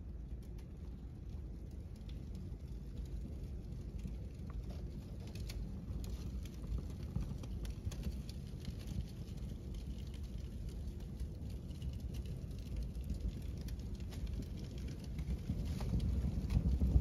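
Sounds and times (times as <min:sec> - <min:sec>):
fire crackling: 0:00.0 - 0:17.0
flames rushing: 0:00.0 - 0:17.0.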